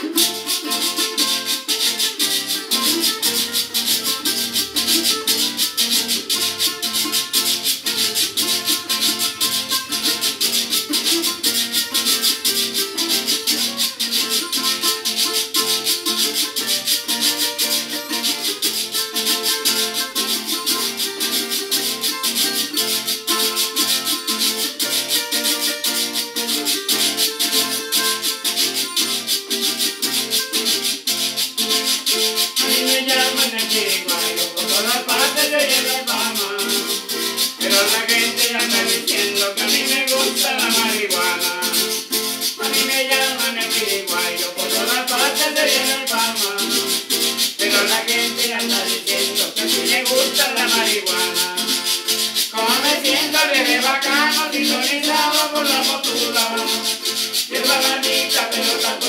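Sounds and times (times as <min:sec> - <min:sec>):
acoustic guitars strummed: 0:00.0 - 0:59.0.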